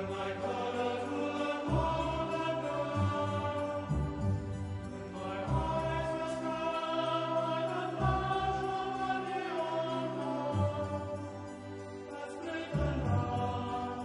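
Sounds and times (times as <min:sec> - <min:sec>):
male choir chanting: 0:00.0 - 0:14.0.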